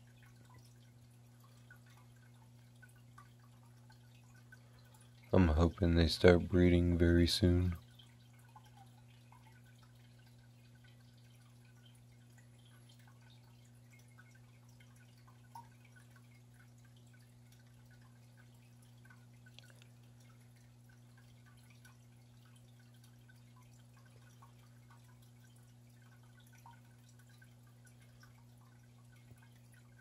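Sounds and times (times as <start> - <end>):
aquarium filter humming: 0.0 - 30.0
water dripping and bubbling: 0.0 - 30.0.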